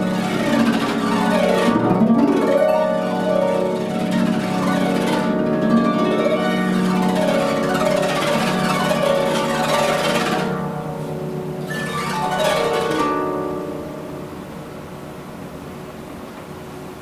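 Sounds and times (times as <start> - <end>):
harp playing: 0.0 - 15.4.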